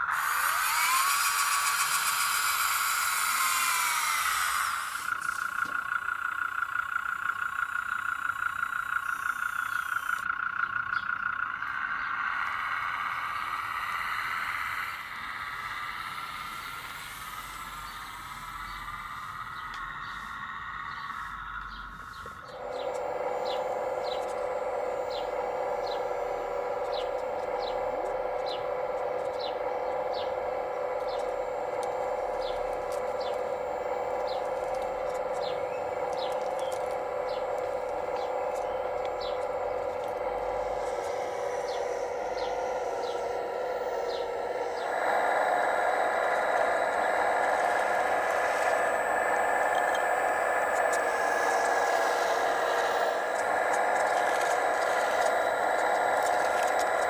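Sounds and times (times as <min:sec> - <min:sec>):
hydraulic pump whine: 0:00.0 - 0:57.0
bird chirping: 0:00.7 - 0:57.0.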